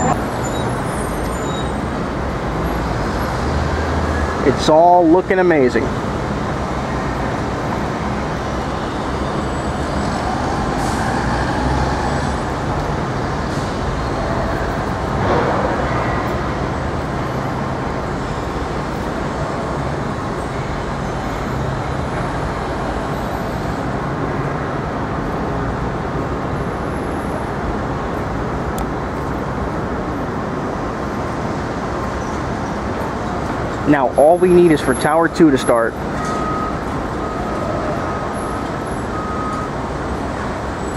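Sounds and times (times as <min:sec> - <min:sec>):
street traffic rumble: 0:00.0 - 0:40.9.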